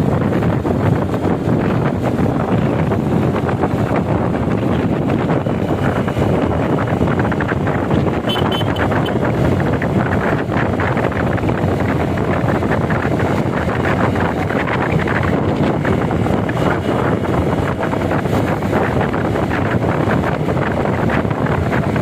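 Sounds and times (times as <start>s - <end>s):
road and vehicle noise: 0.0s - 22.0s
wind buffeting microphone: 0.0s - 22.0s.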